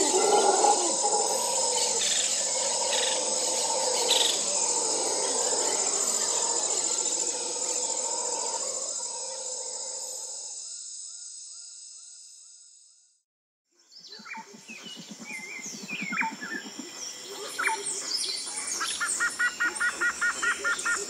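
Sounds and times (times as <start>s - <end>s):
insects buzzing drone: 0.0s - 13.1s, 14.4s - 21.0s.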